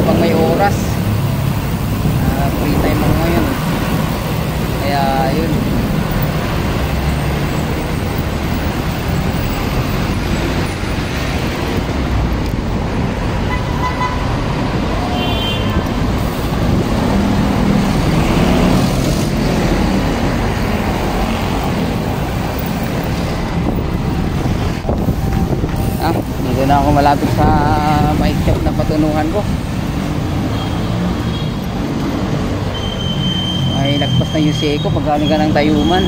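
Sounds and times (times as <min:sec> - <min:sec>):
vehicles running past: 0:00.0 - 0:36.0.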